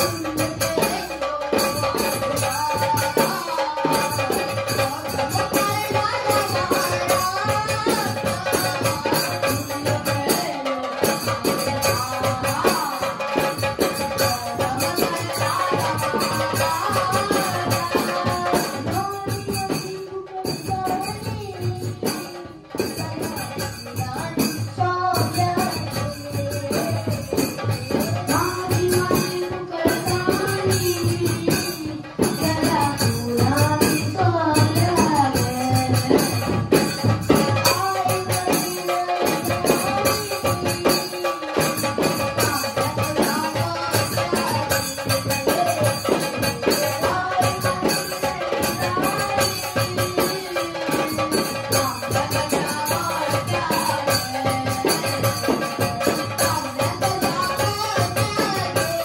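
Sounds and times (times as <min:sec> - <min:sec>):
chorus of boys singing: 0:00.0 - 0:59.0
clay-pot drums and hand percussion: 0:00.0 - 0:59.0.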